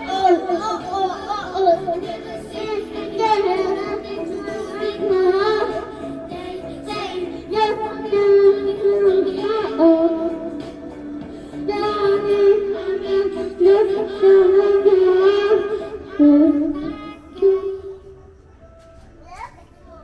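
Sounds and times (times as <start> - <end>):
children singing: 0.0 - 18.0.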